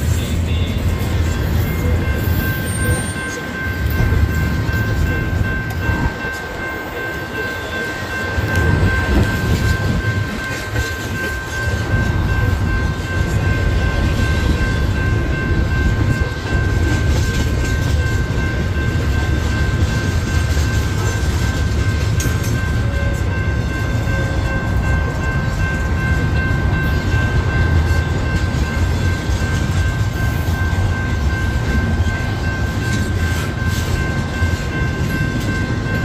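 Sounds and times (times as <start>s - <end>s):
steady high-pitched tone: 0.0s - 36.0s
train wheels rumbling on rail: 0.0s - 36.0s.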